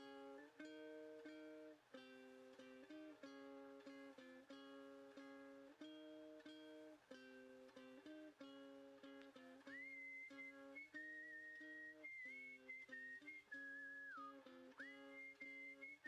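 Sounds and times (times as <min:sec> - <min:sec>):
strummed guitar-like chords: 0:00.0 - 0:16.0.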